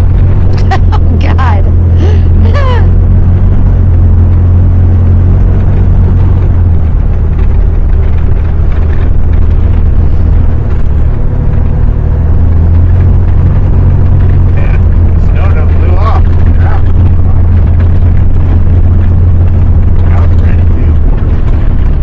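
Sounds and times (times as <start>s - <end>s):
vehicle engine drone from inside: 0.0s - 22.0s.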